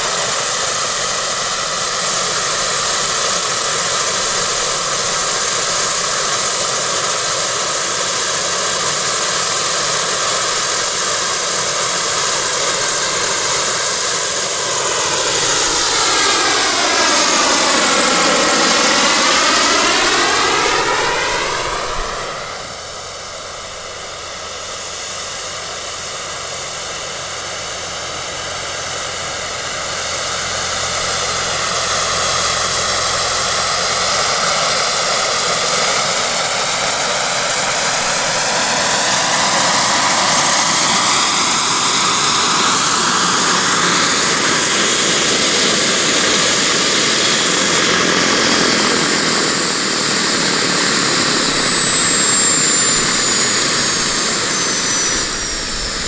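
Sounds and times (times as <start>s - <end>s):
helicopter rotor noise: 0.0s - 56.0s
model helicopter turbine whine: 0.0s - 56.0s.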